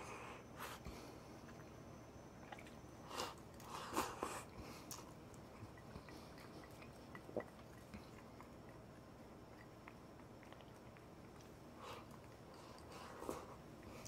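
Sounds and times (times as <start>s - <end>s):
chewing crunchy fried food: 2.5s - 14.0s.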